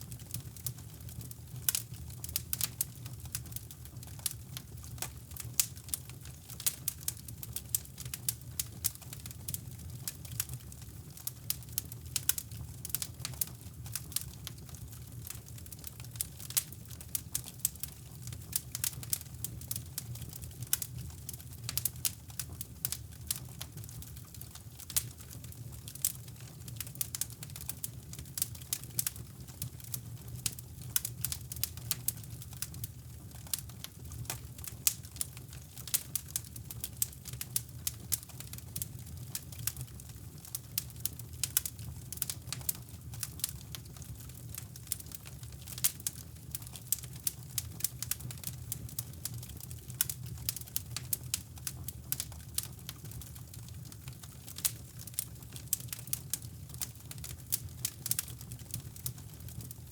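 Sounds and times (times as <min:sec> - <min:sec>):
fire popping and snapping: 0:00.0 - 0:59.9
wood fire crackling: 0:00.0 - 0:59.9.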